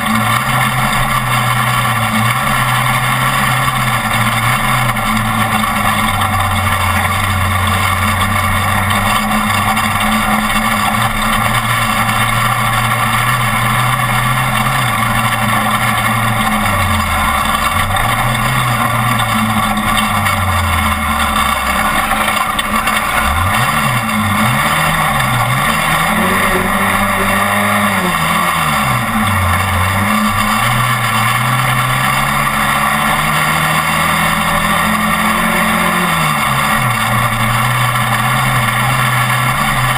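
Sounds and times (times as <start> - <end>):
road and wind noise: 0.0 - 39.9
truck engine running hard: 0.0 - 39.9.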